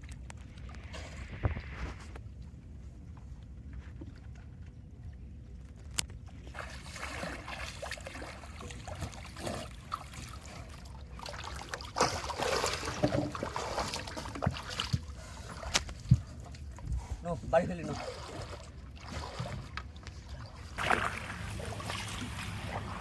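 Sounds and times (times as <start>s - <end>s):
water sloshing against a boat: 0.0s - 23.0s.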